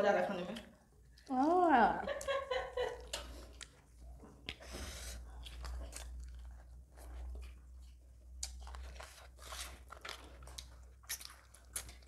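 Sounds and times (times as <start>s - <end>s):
chewing and crunching: 0.6s - 12.0s.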